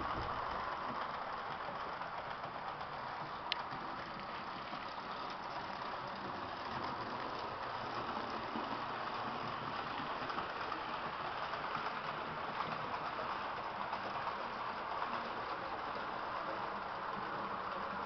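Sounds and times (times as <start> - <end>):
model trains running on metal track: 0.0 - 18.0.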